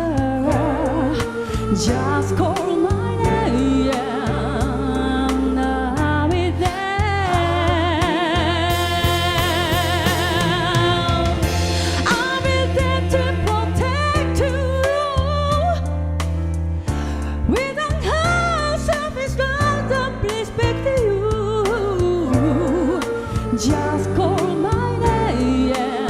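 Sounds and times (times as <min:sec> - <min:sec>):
backing vocal harmonies: 0:00.0 - 0:15.8, 0:16.9 - 0:26.0
backing track with bass and beat: 0:00.0 - 0:26.0
piano: 0:00.0 - 0:26.0
soul ballad singing with vibrato: 0:00.0 - 0:26.0.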